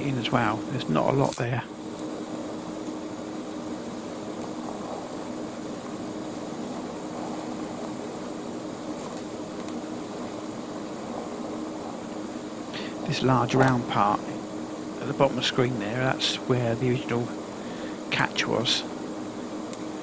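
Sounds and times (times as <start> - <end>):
welding arc hissing buzz: 0.0 - 20.0.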